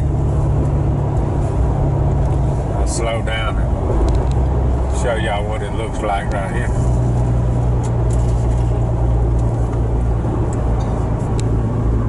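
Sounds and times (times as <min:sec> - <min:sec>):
car engine drone: 0:00.0 - 0:12.0
tyres on the road: 0:00.0 - 0:12.0.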